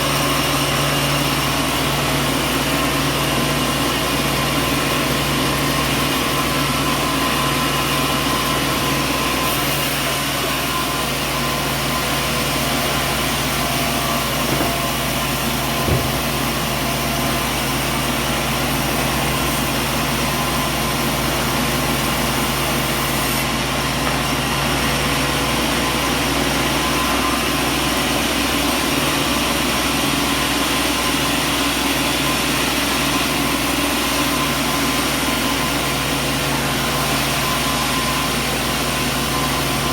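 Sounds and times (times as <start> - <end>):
sawmill machinery humming and whining: 0.0 - 39.9.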